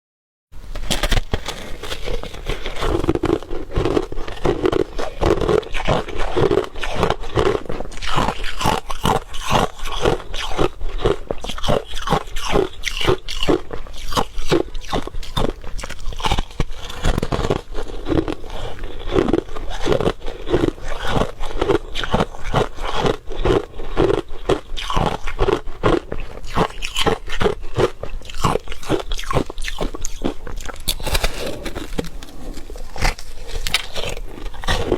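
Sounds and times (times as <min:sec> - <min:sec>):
crushed ice crunching: 0:00.8 - 0:34.9.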